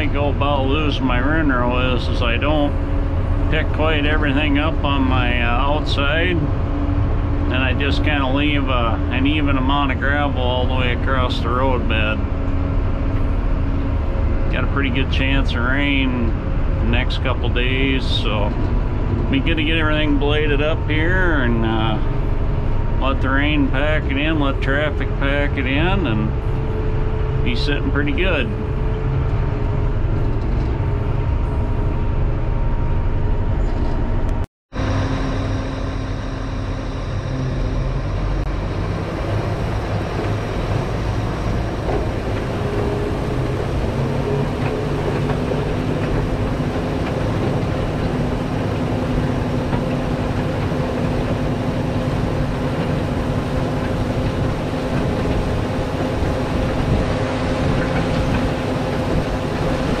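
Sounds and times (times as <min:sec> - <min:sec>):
motor grader running: 0:00.0 - 1:00.0.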